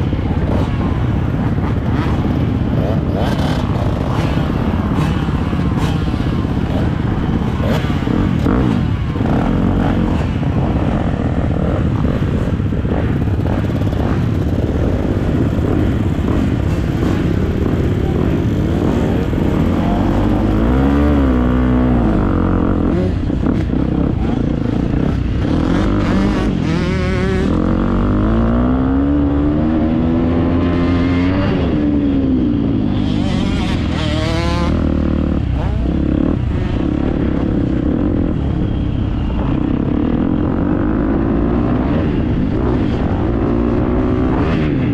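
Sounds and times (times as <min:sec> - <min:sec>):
dirt bike engine revving: 0:00.0 - 0:38.5.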